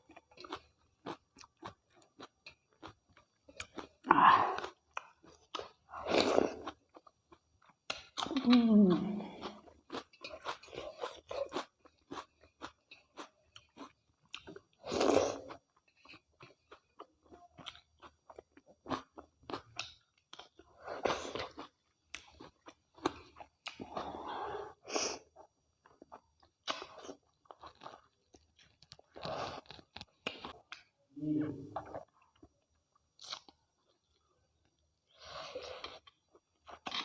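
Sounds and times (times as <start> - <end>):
person chewing wetly: 0.0 - 30.9, 31.8 - 34.2.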